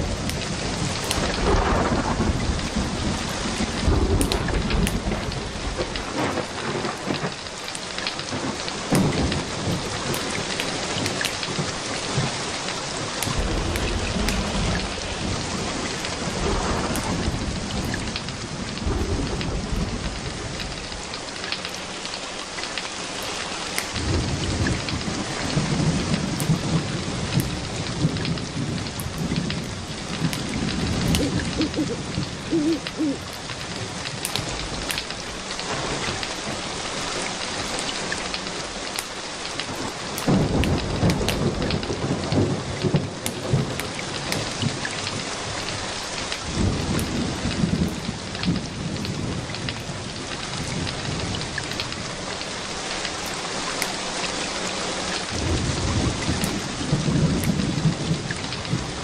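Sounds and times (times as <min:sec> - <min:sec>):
thunder rumbling: 0:00.0 - 0:07.4, 0:08.2 - 0:22.1, 0:23.4 - 0:36.9, 0:39.7 - 0:52.4, 0:55.3 - 0:59.0
steady rain: 0:00.0 - 0:59.0.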